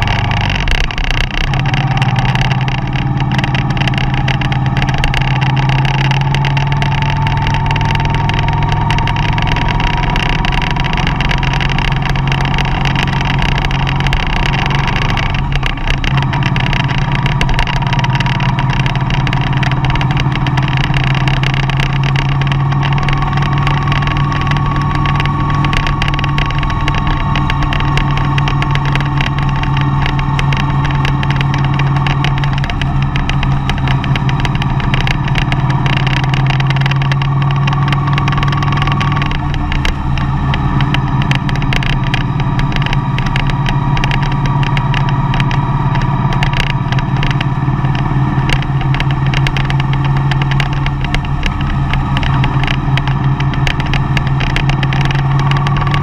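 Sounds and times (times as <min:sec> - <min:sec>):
van engine and road noise: 0:00.0 - 0:56.0.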